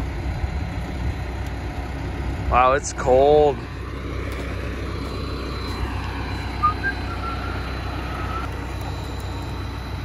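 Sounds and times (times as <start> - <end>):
engine idling: 0.0 - 10.0
winch whine: 0.0 - 10.0.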